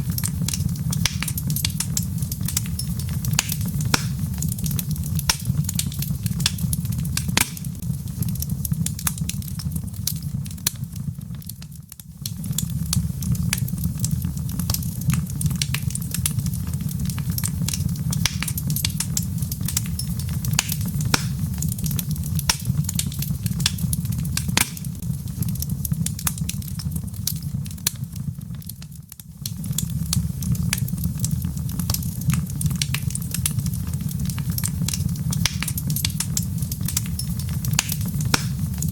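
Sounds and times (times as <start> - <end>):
low fire rumble: 0.0 - 38.9
wood fire crackling and popping: 0.0 - 38.9.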